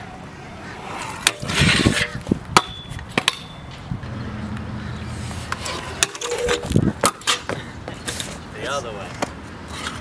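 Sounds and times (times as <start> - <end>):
scooter wheels grinding: 0.0 - 8.9, 9.6 - 10.0.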